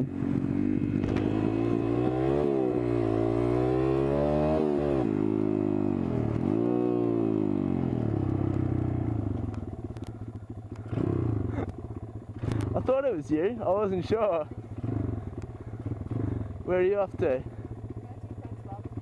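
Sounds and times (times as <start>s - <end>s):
pit bike engine revving: 0.0s - 19.0s.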